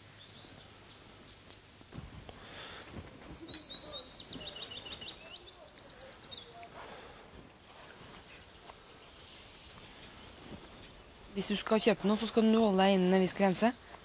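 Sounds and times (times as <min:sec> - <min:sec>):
background hiss: 0:00.0 - 0:14.0
songbird singing: 0:00.0 - 0:14.0.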